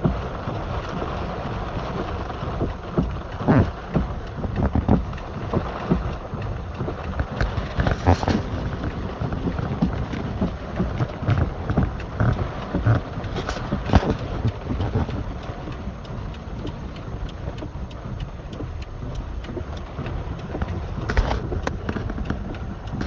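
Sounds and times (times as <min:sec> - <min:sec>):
low rumble: 0:00.0 - 0:23.0
rain hissing: 0:00.0 - 0:23.0
raindrop hits: 0:00.0 - 0:23.0.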